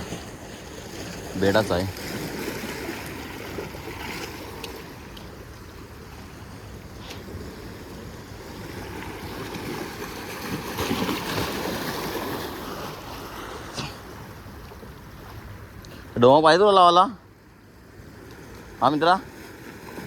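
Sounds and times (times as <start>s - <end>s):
water splashing and lapping: 0.0s - 16.8s, 17.6s - 20.0s.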